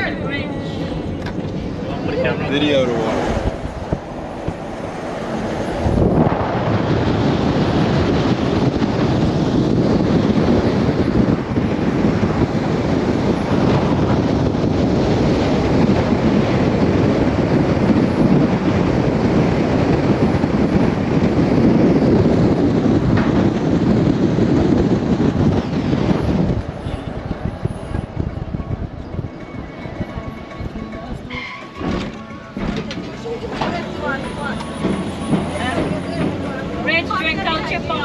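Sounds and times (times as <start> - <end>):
road noise: 0.0 - 38.0
wind buffeting microphone: 0.0 - 38.0.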